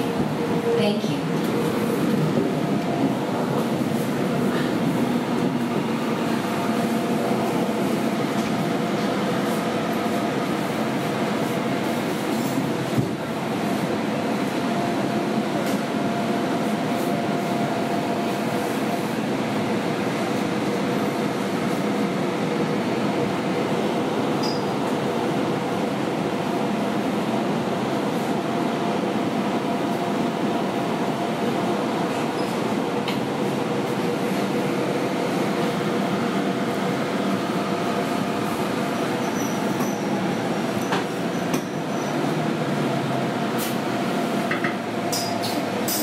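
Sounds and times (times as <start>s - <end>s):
train running rumble and hiss: 0.0s - 46.0s.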